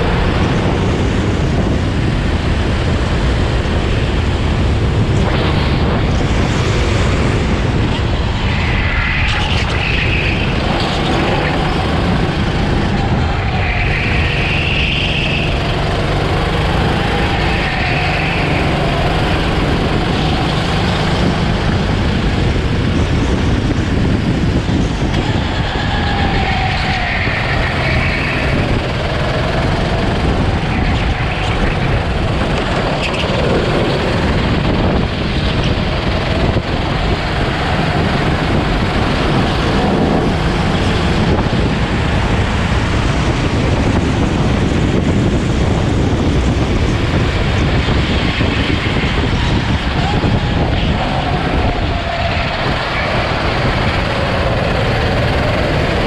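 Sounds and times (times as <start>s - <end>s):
go-kart engine: 0.0s - 56.0s
road noise: 0.0s - 56.0s
wind noise on microphone: 0.0s - 56.0s.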